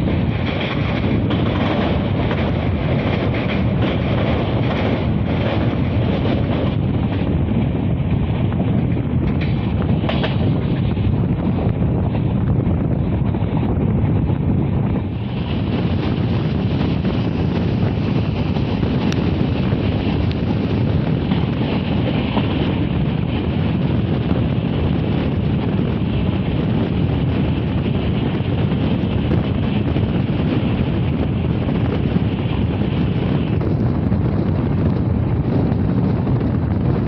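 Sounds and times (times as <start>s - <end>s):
train rumble: 0.0s - 37.0s
wind on microphone: 0.0s - 37.0s.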